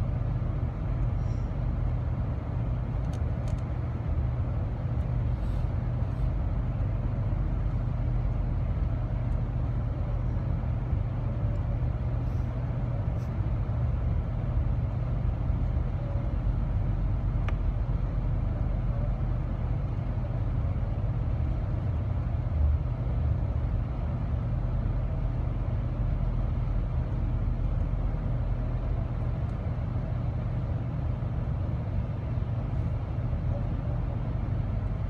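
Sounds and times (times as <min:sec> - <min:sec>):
train rumbling inside car: 0:00.0 - 0:35.0.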